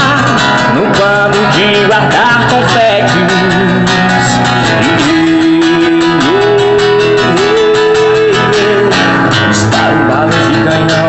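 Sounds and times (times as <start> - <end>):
guitar strumming: 0.0 - 11.0
sliding held melody line: 0.0 - 11.0.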